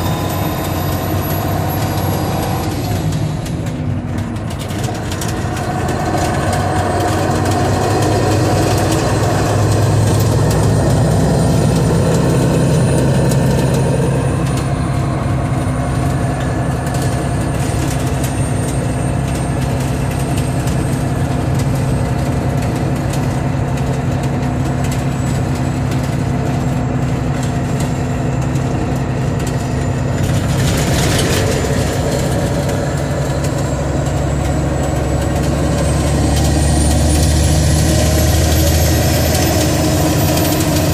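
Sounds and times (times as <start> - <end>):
diesel truck engine running: 0.0 - 40.9
clicking and rattling: 3.0 - 36.8.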